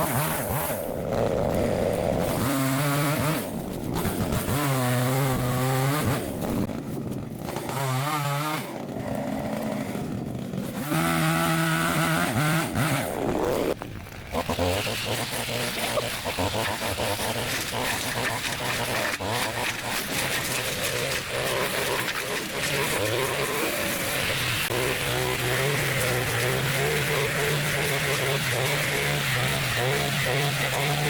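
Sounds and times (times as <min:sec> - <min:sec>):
small petrol engine revving: 0:00.0 - 0:31.0.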